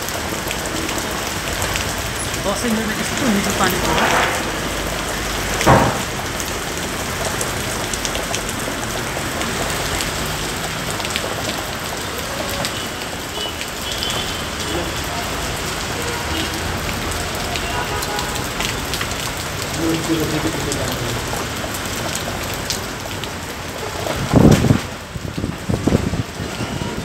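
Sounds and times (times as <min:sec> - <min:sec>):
heavy rain on wet street: 0:00.0 - 0:27.0.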